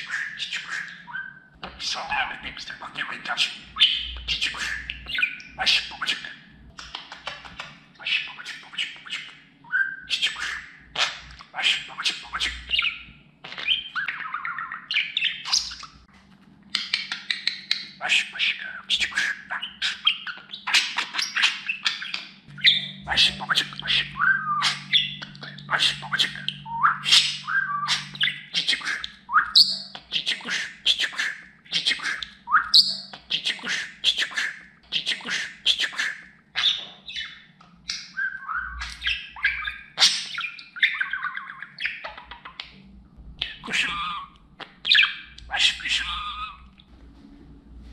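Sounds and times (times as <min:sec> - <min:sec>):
budgerigar chattering: 0:00.0 - 0:16.0, 0:16.8 - 0:42.7, 0:43.4 - 0:46.7.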